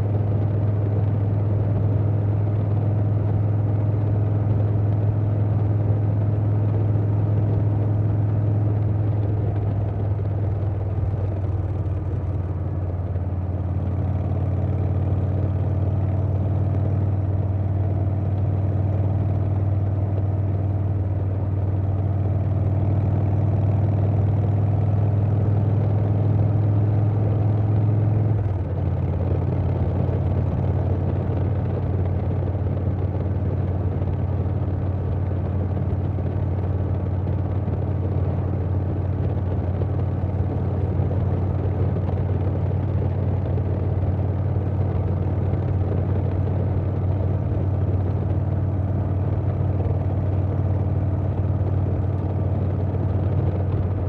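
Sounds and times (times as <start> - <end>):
motorcycle engine at road speed: 0.0 - 54.0.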